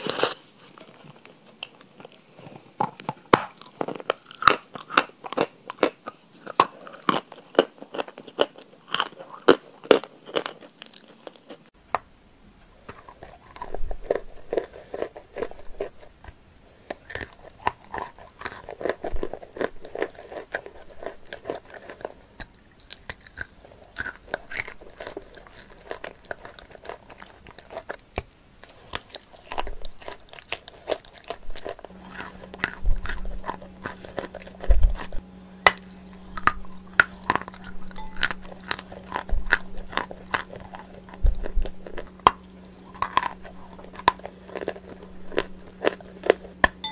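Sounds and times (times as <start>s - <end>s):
person chewing crunchy food: 0.0s - 11.8s, 12.7s - 46.9s.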